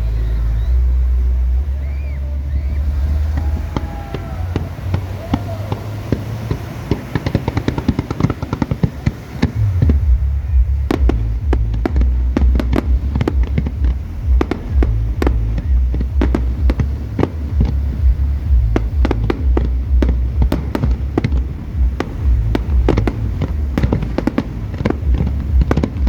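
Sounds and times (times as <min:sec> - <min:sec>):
deep rumble: 0:00.0 - 0:26.0
rapid firework crackling: 0:02.6 - 0:26.0.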